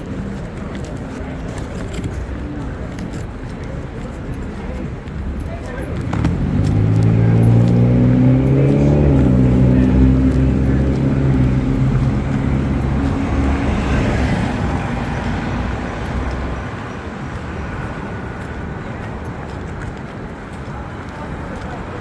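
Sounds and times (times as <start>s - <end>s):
vehicle engine droning: 0.0s - 20.0s
rush of passing cars: 0.0s - 22.0s.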